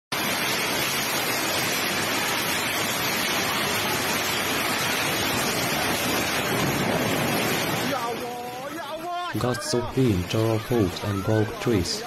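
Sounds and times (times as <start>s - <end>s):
heavy rain falling: 0.1s - 12.0s.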